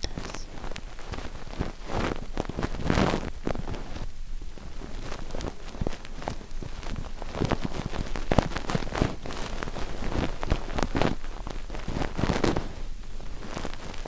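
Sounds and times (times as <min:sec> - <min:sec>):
soft rain: 0:00.0 - 0:14.0.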